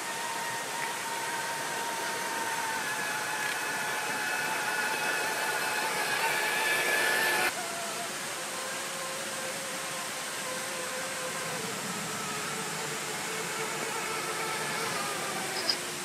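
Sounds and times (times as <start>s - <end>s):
electric motor whining: 0.0s - 16.0s
steady hiss: 0.0s - 16.0s.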